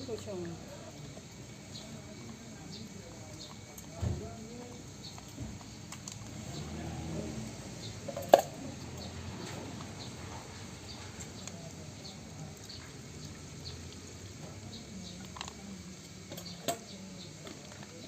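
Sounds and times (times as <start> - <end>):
kittens ticking and scuffling: 0.0 - 18.0.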